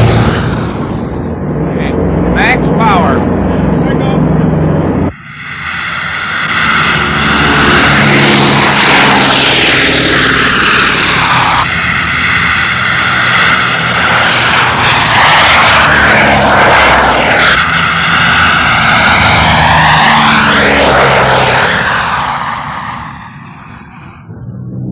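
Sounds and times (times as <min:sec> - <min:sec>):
piston aircraft engines droning: 0:00.0 - 0:24.9.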